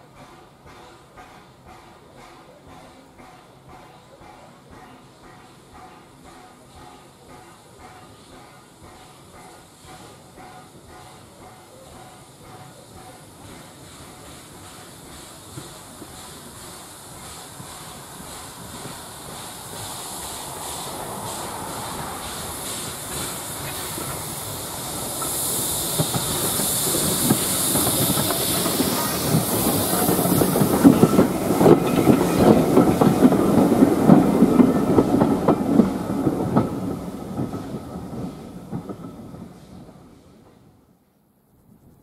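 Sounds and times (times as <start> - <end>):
train wheels clattering: 0.0 - 40.6
steam locomotive hiss: 0.0 - 41.0.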